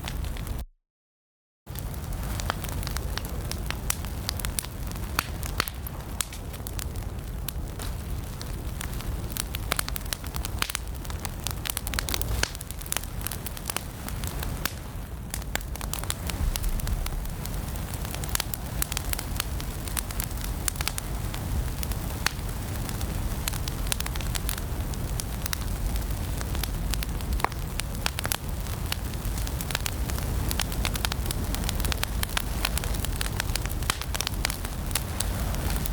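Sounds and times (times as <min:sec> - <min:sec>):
burning logs crackling and popping: 0:00.0 - 0:00.6, 0:01.7 - 0:35.9
fire rumbling in fireplace: 0:00.0 - 0:00.6, 0:01.7 - 0:35.9.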